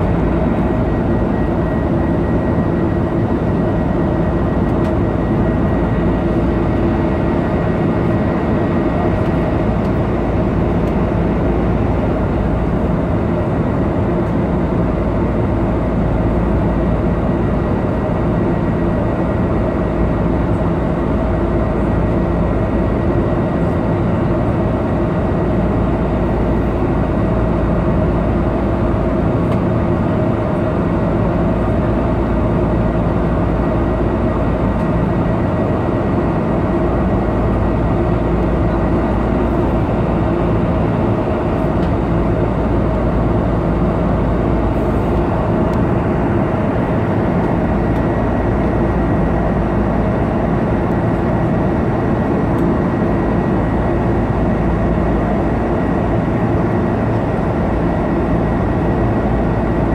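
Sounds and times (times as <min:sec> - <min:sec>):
jet engine cabin drone: 0:00.0 - 0:59.9
steady hum tones: 0:00.0 - 0:59.9.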